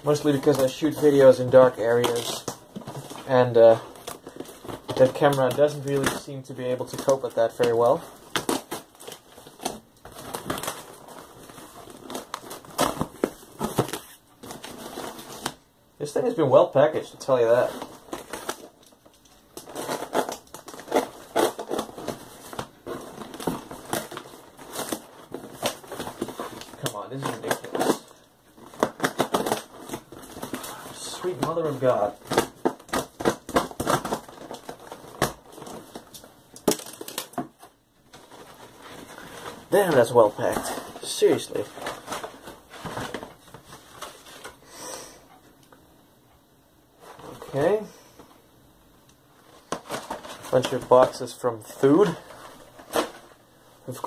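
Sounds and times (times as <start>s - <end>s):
cardboard and paper crumpling: 0.0s - 44.6s, 49.4s - 54.0s.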